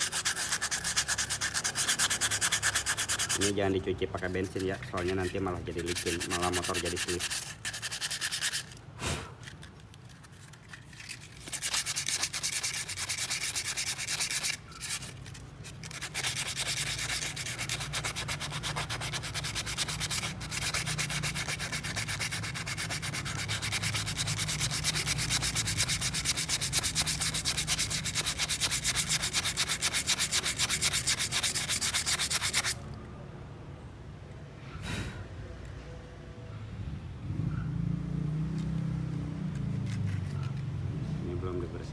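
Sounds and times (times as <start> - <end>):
sandpaper rubbing: 0.0 - 32.9, 39.5 - 40.8.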